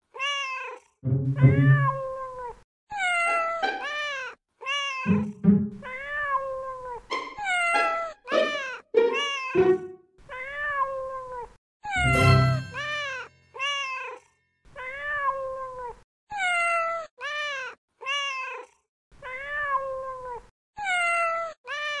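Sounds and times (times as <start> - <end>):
cat meowing: 0.1 - 9.6, 10.2 - 22.0.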